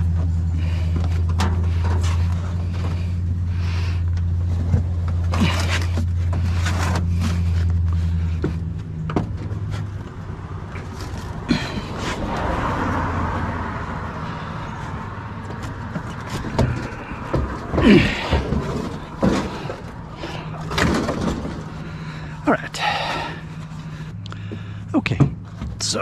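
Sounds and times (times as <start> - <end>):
vehicle passing: 0.0 - 26.0
scrap metal knocks and clunks: 0.1 - 10.2, 14.6 - 26.0.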